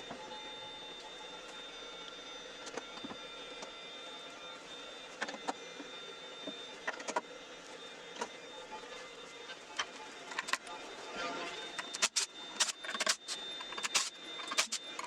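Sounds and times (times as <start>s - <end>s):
wood lathe whining: 0.0s - 15.0s.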